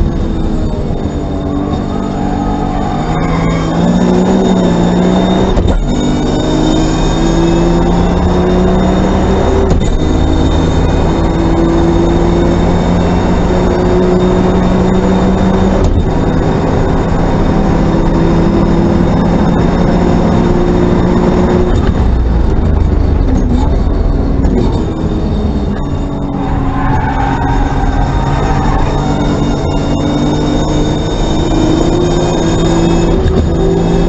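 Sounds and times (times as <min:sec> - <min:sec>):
gear change: 0:00.0 - 0:34.0
race car engine at full throttle: 0:00.0 - 0:34.0
wind and road noise: 0:00.0 - 0:34.0.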